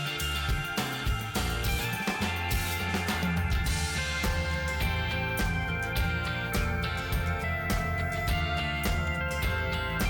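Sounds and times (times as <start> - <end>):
bass: 0.0 - 10.0
guitar: 0.0 - 10.0
music with steady beat: 0.0 - 10.0.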